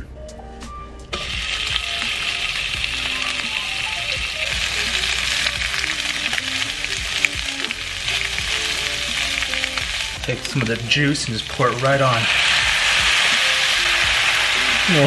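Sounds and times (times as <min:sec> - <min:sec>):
meat sizzling in a frying pan: 0:01.2 - 0:15.0.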